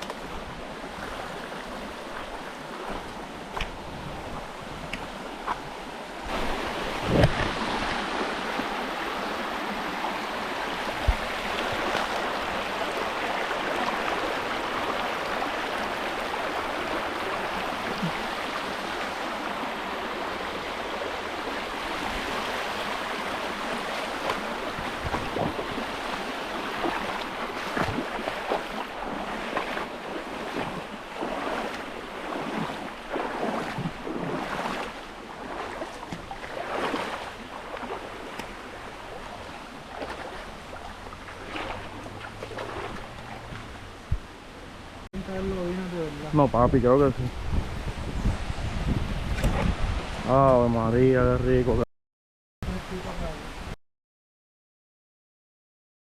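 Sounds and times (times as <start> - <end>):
flowing river water: 0.0 - 51.8, 52.7 - 53.8.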